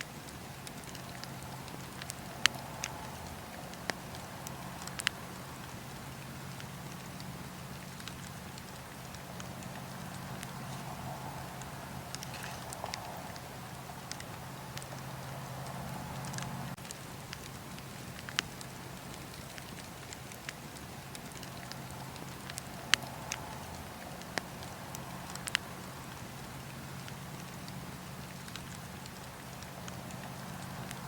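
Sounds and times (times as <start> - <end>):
wood fire crackling and popping: 0.0 - 31.0
fire low rumble: 0.1 - 31.0.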